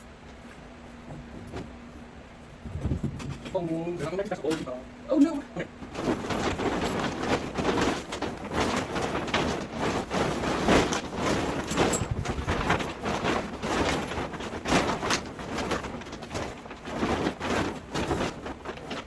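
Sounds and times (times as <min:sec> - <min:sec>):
fabric rustling and scraping: 0:00.0 - 0:19.0.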